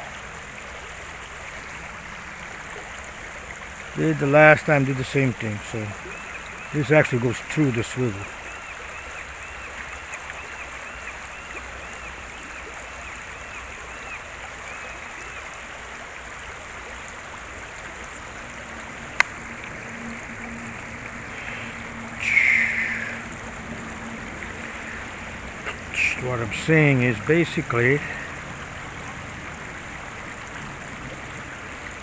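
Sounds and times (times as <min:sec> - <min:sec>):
river water rushing over rocks: 0:00.0 - 0:32.0.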